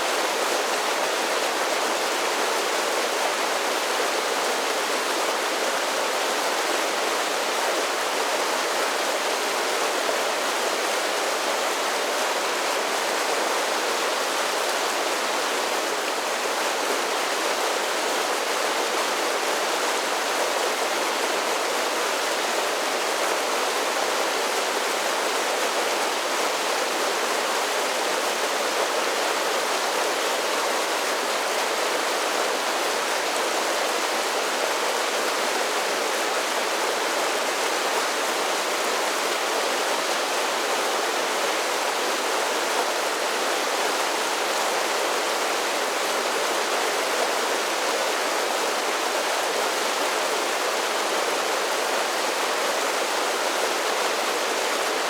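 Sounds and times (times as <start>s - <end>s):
creek water rushing over waterfalls: 0.0s - 55.0s.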